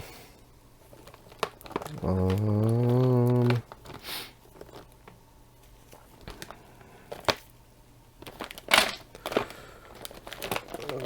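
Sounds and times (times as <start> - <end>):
cables clicking and rustling: 0.8 - 7.5, 8.2 - 11.0.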